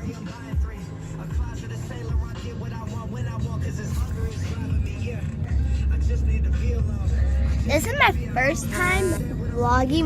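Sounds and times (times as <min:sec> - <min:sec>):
rapping over a bass beat: 0:00.0 - 0:10.0.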